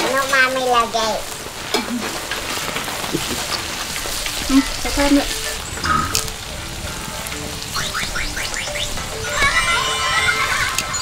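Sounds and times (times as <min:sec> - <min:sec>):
noodles sizzling in a pan: 0:00.0 - 0:11.0.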